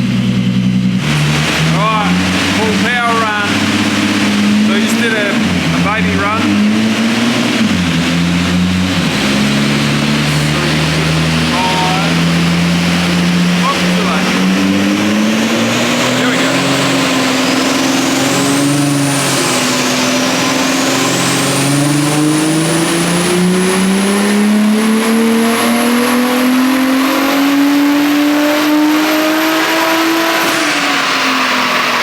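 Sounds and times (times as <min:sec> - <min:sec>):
car engine revving on dyno: 0:00.0 - 0:32.0
high turbo whine: 0:00.0 - 0:32.0.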